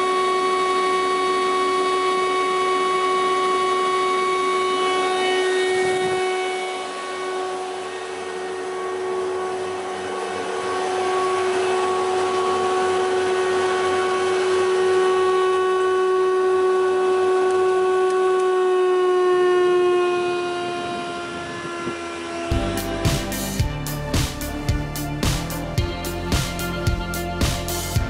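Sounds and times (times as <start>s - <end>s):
thickness planer high whine: 0.0s - 28.0s.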